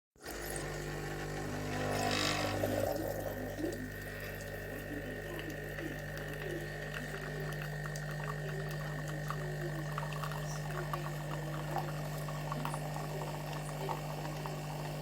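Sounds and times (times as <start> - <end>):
coffee machine hissing: 0.2 - 15.0
hot water gurgling: 0.2 - 15.0
water pump humming: 0.2 - 15.0.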